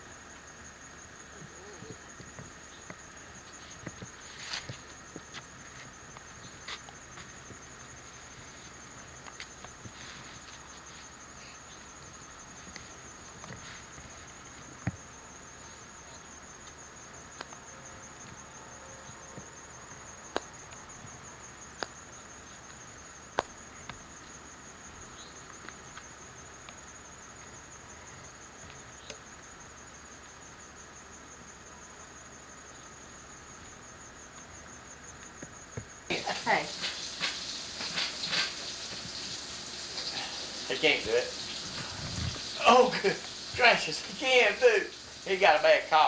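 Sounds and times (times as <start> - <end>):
insects trilling: 0.0 - 46.0.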